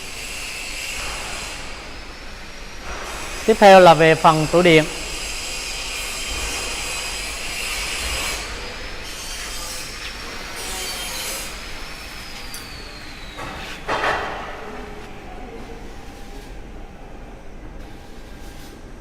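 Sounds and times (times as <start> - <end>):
steady machine noise: 0.0 - 19.0.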